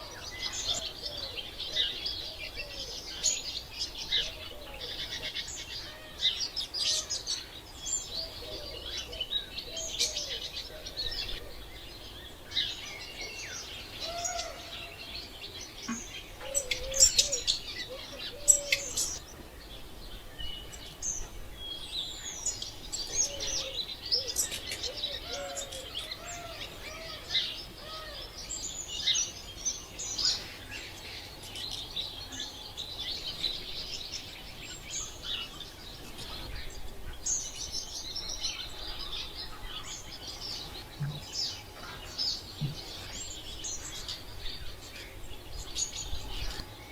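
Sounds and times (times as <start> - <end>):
birds chirping and trilling: 0.0 - 46.9.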